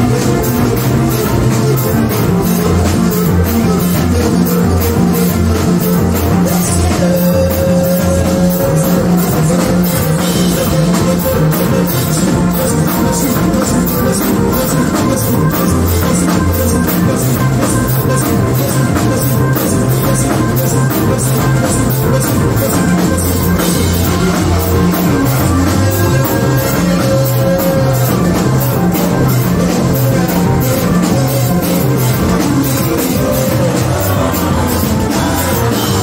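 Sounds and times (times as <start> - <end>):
bass line: 0.0 - 36.0
drum kit playing a beat: 0.0 - 36.0.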